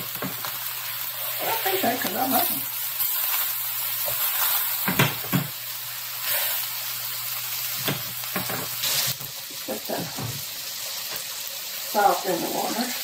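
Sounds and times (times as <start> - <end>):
lemon and butter sizzling: 0.0 - 13.0.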